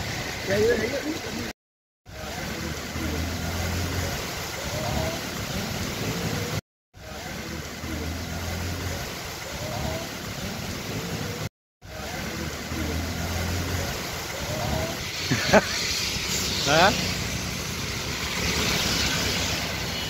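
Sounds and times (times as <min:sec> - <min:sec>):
heavy rain on road: 0:00.0 - 0:01.5, 0:02.1 - 0:20.0
traffic on wet road: 0:00.0 - 0:01.5, 0:02.1 - 0:20.0.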